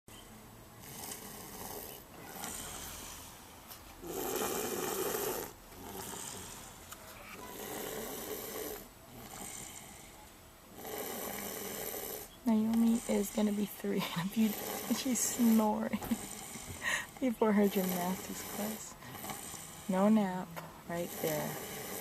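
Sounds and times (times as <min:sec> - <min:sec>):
toddler snoring: 0:00.8 - 0:22.0.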